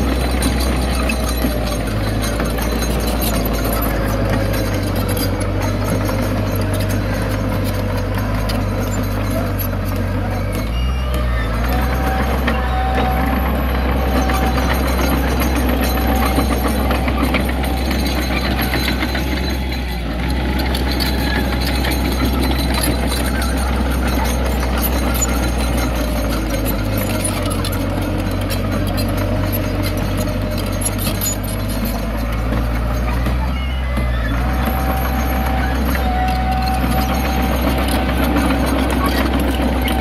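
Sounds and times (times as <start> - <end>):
diesel engine drone: 0.0 - 40.0
machinery clatter: 0.0 - 40.0.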